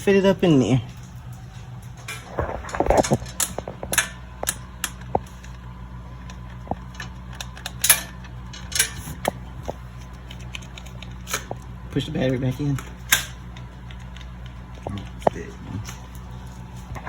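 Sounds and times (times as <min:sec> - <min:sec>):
steady low hum: 0:00.0 - 0:17.0
metal exhaust pipe clanking: 0:00.6 - 0:17.0.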